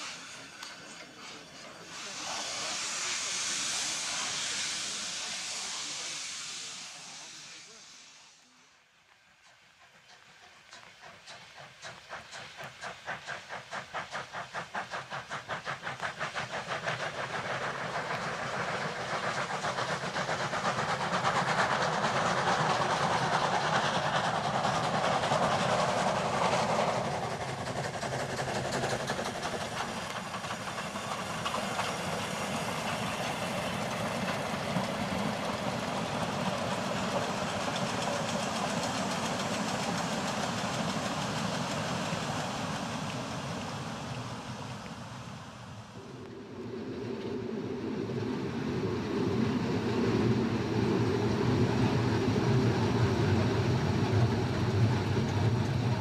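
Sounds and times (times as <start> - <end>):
steam locomotive chuffing: 0.0 - 56.0
carriages rumbling and clattering on rails: 9.2 - 56.0.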